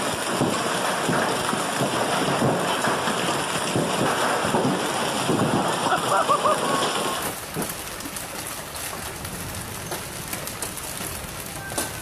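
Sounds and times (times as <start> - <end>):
heavy rain on a wet street: 0.0 - 12.0.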